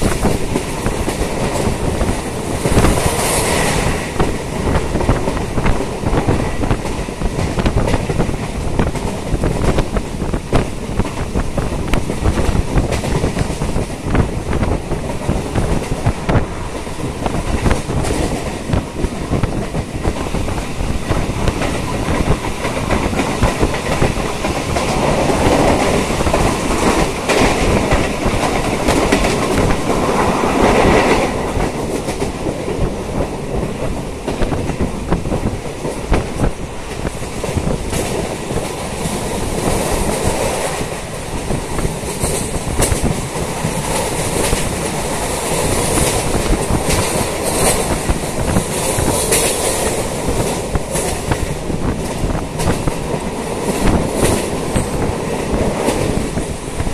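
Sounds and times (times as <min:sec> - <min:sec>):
train wheels clattering on rails: 0:00.0 - 0:56.9.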